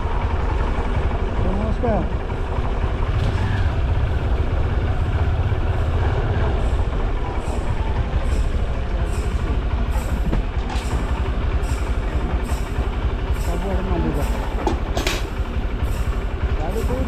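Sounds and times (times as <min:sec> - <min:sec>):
motorbike engine drone: 0:00.0 - 0:17.0.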